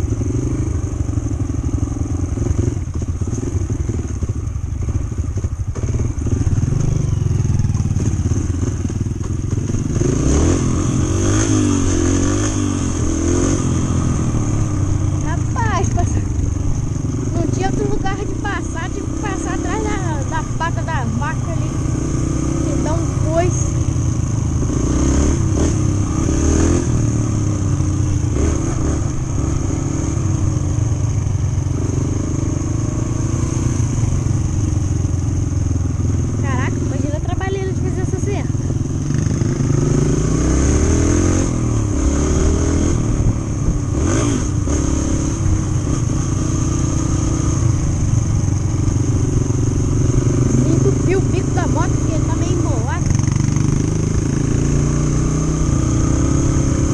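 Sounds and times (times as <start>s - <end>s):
dirt bike engine: 0.0s - 56.9s.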